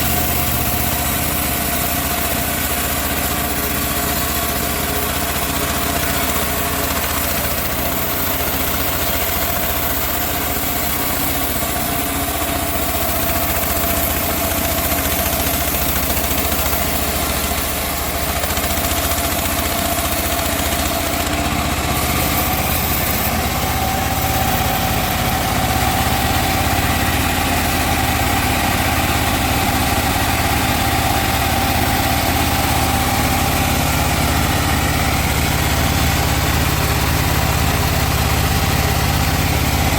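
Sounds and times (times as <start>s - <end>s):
engine-driven sawmill running: 0.0s - 39.9s
saw whining: 0.0s - 39.9s.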